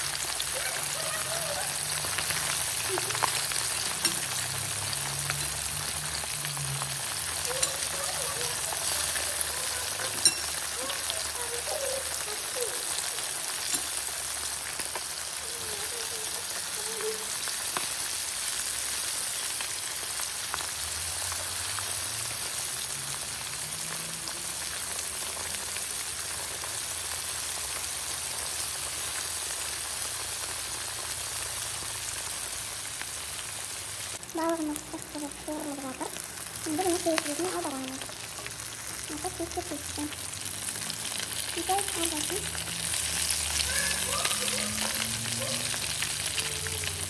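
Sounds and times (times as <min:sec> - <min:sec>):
fish frying in hot oil: 0:00.0 - 0:47.0.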